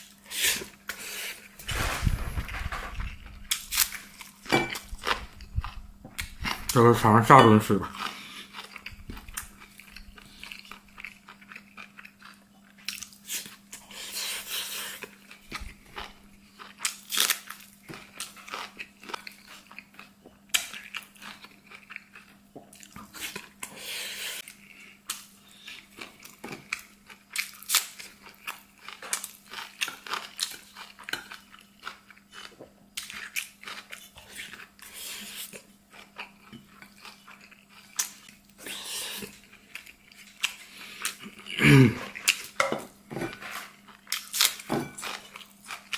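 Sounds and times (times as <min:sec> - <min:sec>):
person chewing and crunching food: 0:00.0 - 0:45.9.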